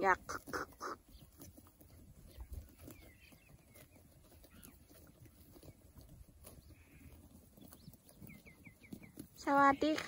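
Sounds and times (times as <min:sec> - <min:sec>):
lambs tearing and chewing grass: 0:00.0 - 0:10.0.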